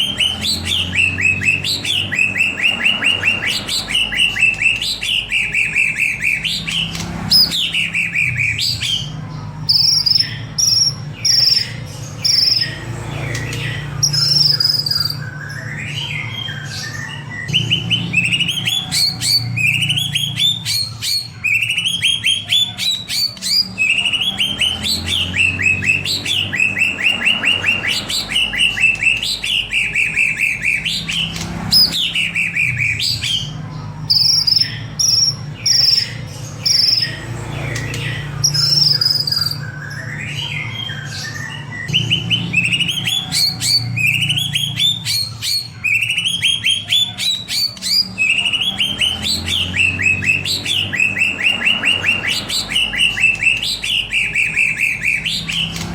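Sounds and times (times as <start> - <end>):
bird song with rapid chirps: 0.0 - 55.9.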